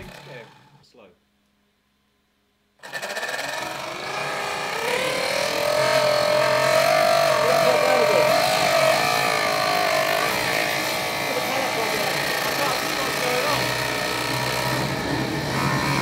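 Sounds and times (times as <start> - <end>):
model jet engine whine: 2.8 - 16.0.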